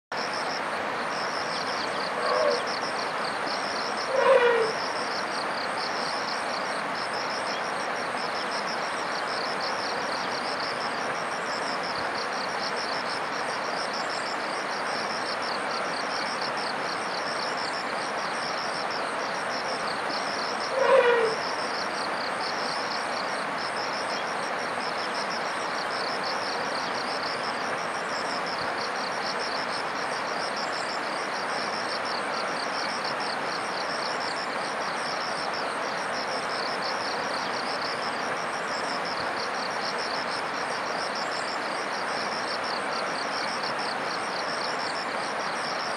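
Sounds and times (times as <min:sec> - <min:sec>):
river rushing hiss: 0:00.2 - 0:45.9.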